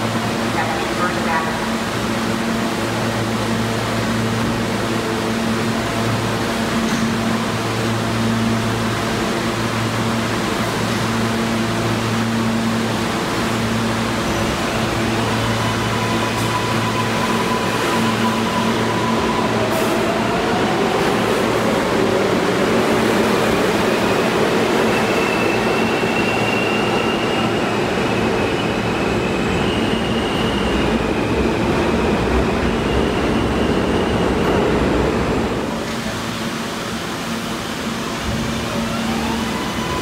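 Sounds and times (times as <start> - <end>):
subway train rumbling: 0.0 - 40.0.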